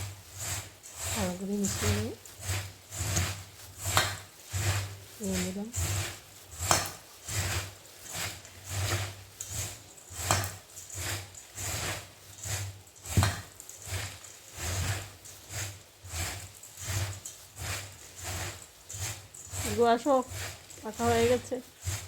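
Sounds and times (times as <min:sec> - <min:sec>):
puffed rice mixed in a bowl: 0:00.0 - 0:22.0.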